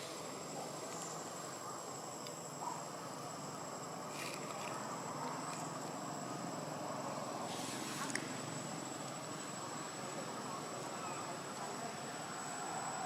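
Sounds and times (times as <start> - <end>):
high-pitched insect whine: 0.0 - 13.0.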